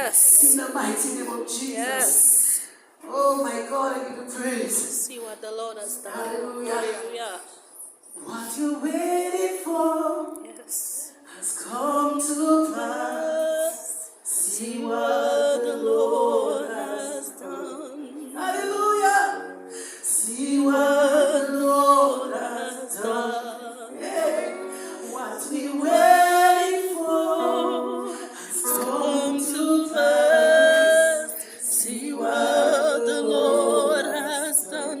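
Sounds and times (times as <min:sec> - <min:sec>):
voices singing worship: 0:00.0 - 0:05.2, 0:05.9 - 0:35.0.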